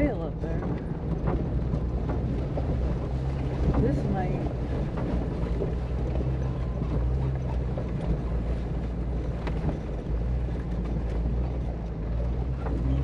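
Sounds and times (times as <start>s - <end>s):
car engine running at low speed: 0.0s - 13.0s
road noise: 0.0s - 13.0s.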